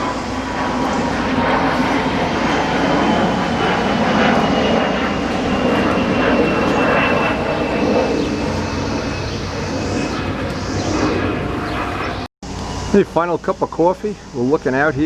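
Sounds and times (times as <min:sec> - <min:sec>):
rushing air: 0:00.0 - 0:13.0
loud engine noise: 0:00.0 - 0:14.8.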